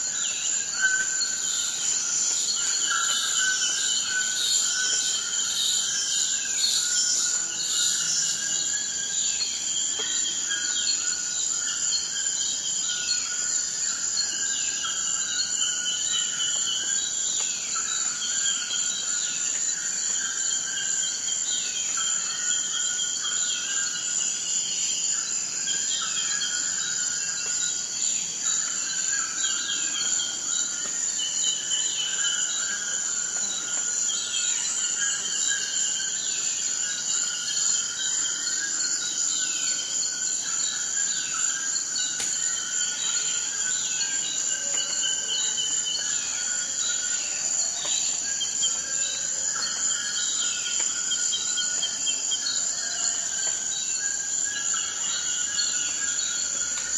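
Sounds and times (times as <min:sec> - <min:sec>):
insect chorus buzzing: 0:00.0 - 0:56.9.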